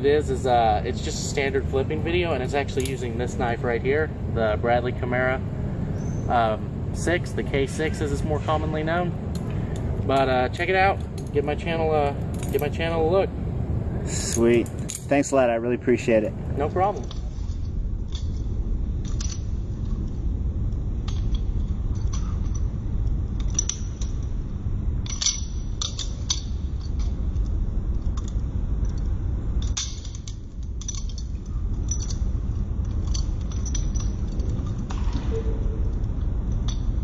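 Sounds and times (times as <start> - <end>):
low rumble: 0.0 - 37.0.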